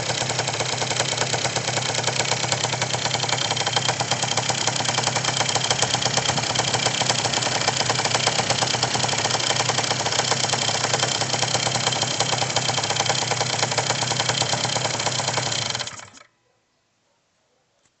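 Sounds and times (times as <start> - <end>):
car engine knocking: 0.0 - 16.2.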